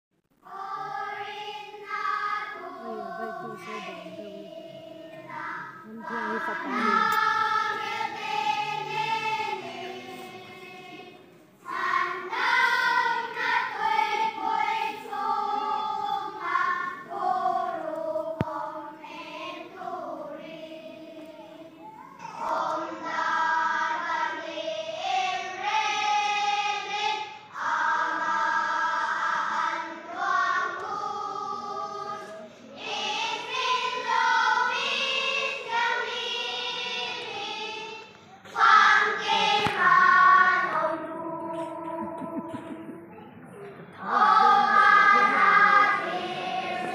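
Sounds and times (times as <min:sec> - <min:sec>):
children's choir singing: 0:00.4 - 0:46.9.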